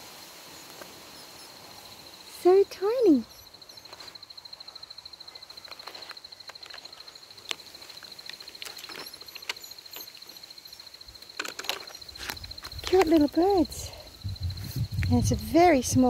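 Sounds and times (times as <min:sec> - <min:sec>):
insect trilling: 0:00.2 - 0:16.0.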